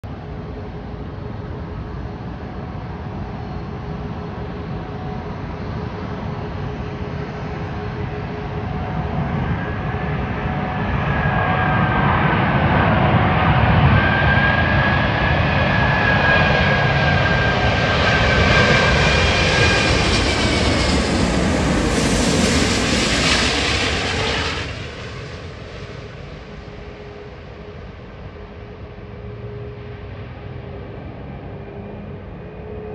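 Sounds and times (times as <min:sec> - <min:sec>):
jet engines passing overhead: 0:00.0 - 0:32.9.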